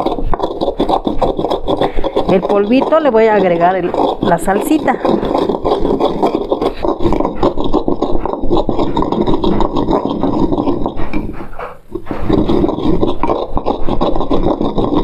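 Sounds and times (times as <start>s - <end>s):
pestle grinding spices: 0.0s - 15.0s.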